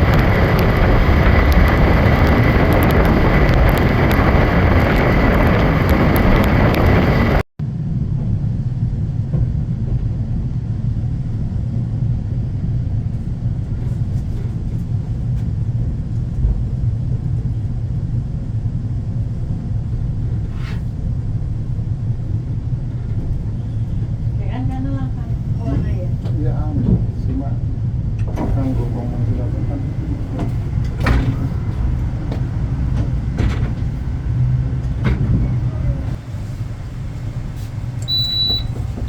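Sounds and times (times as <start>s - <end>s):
passenger train rumbling on track: 0.0s - 39.0s.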